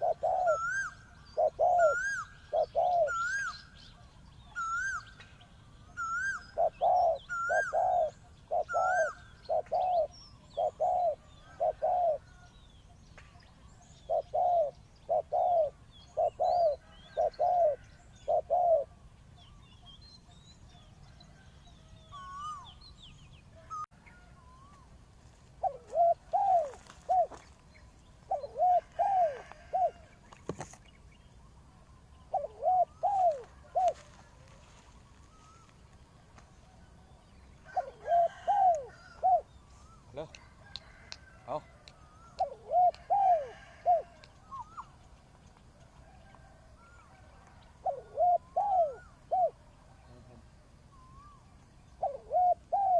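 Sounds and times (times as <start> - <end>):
doves cooing: 0.0 - 5.3, 5.9 - 12.5, 13.9 - 19.0, 23.6 - 27.6, 28.2 - 30.8, 31.5 - 45.1, 45.8 - 52.9
small birds chirping: 0.0 - 46.0.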